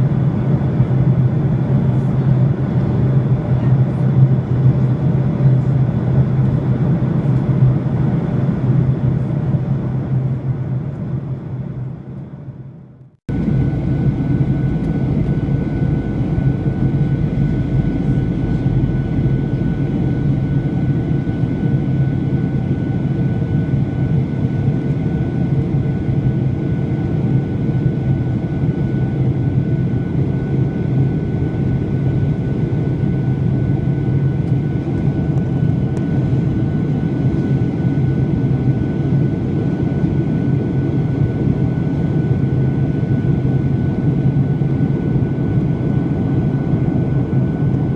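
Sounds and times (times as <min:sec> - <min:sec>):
airplane cabin drone: 0:00.0 - 0:47.9.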